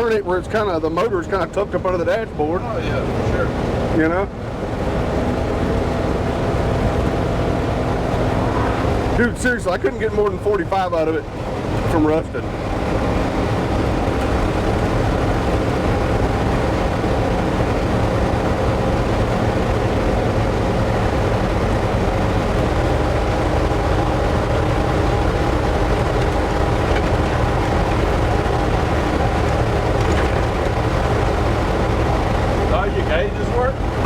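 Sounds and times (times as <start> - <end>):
truck engine and road noise: 0.0 - 34.0.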